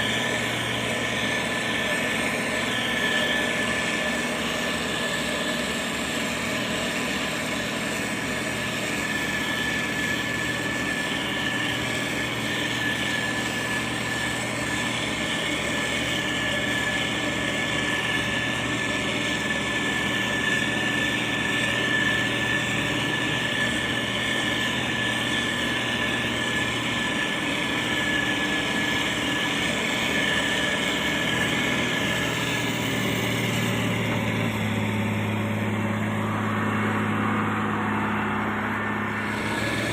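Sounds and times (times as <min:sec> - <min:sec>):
constant high whine: 0:00.0 - 0:39.9
diesel engine running: 0:00.0 - 0:39.9.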